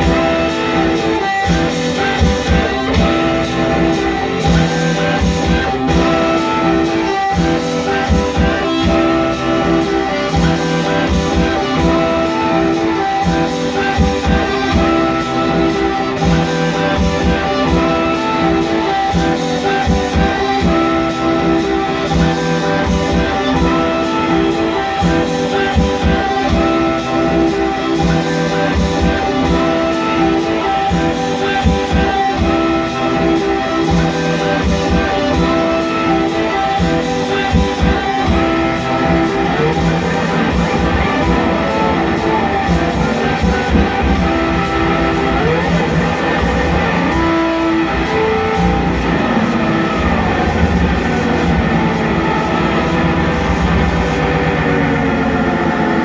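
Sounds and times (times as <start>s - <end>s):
electric guitar through amplifier: 0.0s - 56.0s.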